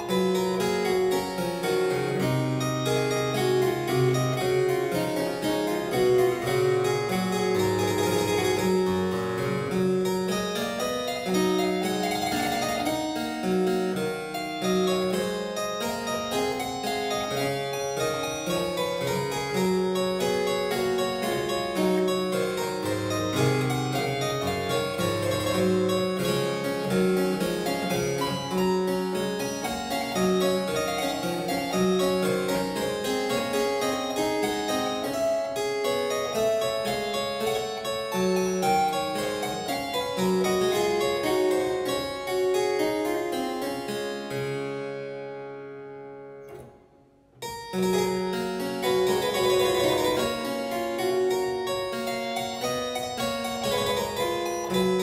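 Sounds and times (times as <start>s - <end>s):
solo harpsichord: 0.0s - 55.0s.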